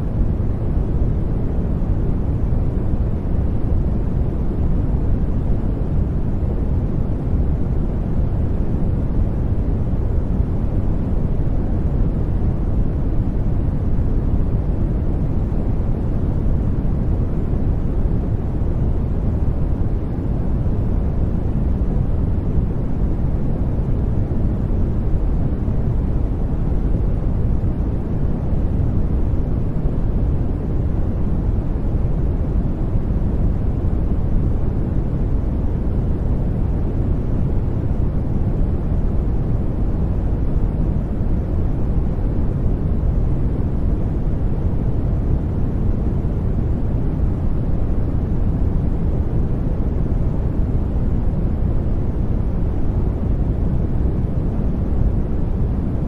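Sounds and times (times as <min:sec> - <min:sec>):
brown noise rumbling hiss: 0:00.0 - 0:56.0.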